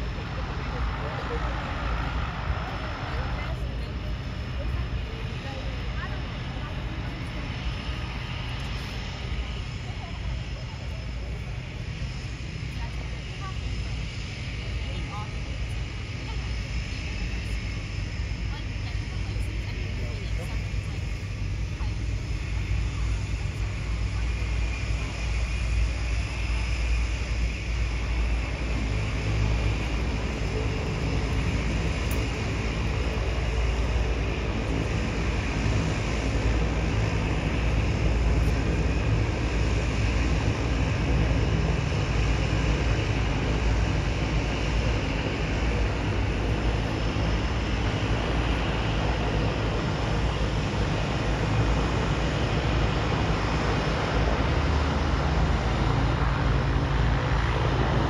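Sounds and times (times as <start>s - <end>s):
propeller plane engine running: 0.0s - 58.0s
steady low rumble: 0.0s - 58.0s.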